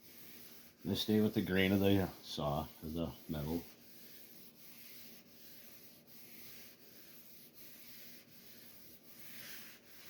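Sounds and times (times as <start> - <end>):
abrasive block rubbing on metal: 0.0 - 10.0.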